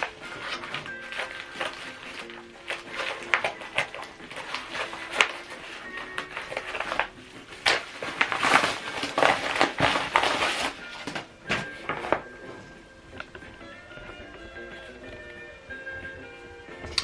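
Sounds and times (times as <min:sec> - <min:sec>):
packaging crinkling and rustling: 0:00.0 - 0:14.6.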